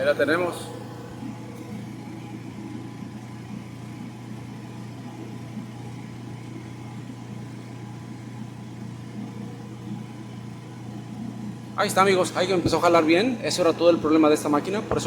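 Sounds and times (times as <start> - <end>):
clothes dryer motor humming: 0.0 - 15.0.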